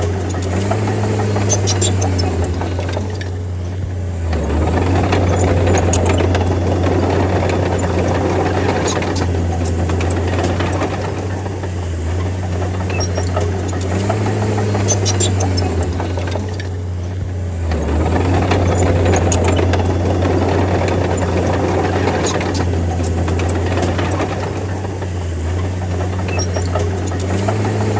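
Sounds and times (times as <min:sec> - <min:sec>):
bulldozer diesel engine running: 0:00.0 - 0:27.9
light clicks and clanks: 0:00.0 - 0:27.9.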